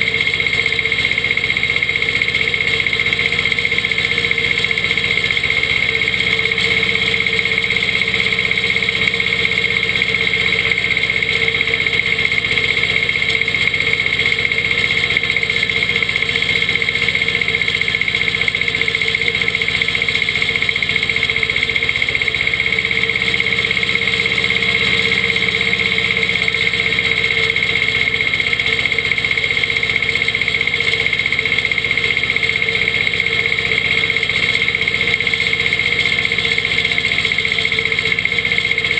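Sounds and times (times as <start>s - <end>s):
diesel tractor running: 0.0s - 38.9s.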